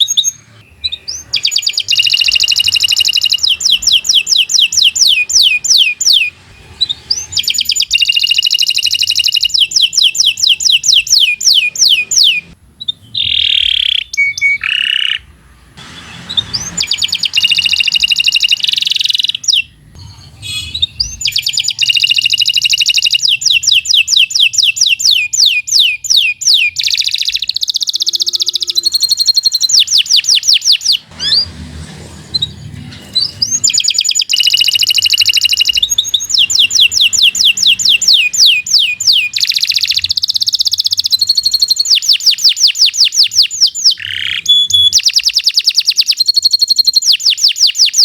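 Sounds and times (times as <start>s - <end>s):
canary singing trills: 0.0s - 31.6s, 32.3s - 48.0s.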